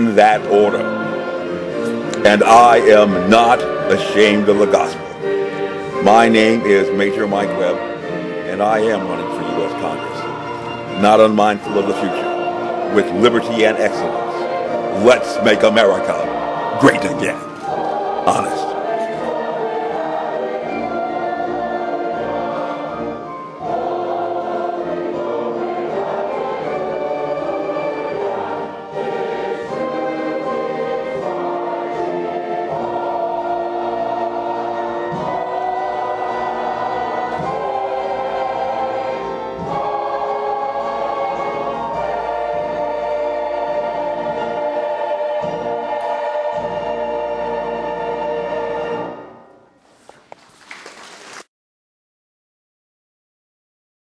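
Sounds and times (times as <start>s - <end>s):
choir singing held chords: 0.0s - 49.7s.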